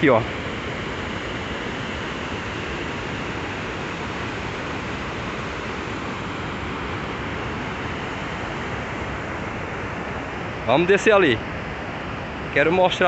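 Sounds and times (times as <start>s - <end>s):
water rushing over weirs: 0.0s - 13.0s.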